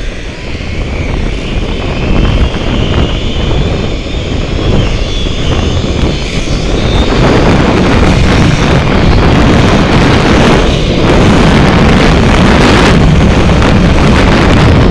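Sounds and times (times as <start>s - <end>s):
wind buffeting microphone: 0.0s - 14.9s
zip line pulleys whirring: 0.0s - 14.9s.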